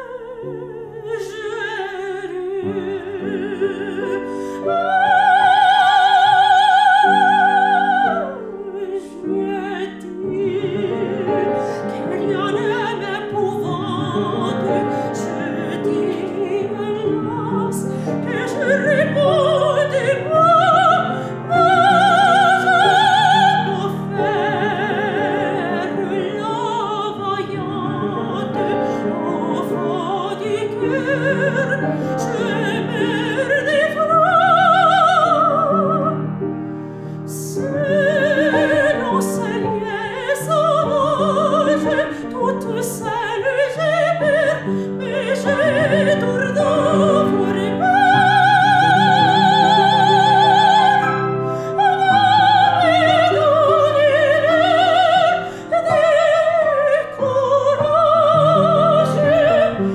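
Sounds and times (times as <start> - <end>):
woman singing operatically: 0.0 - 36.2, 37.3 - 59.9
grand piano: 0.0 - 59.9.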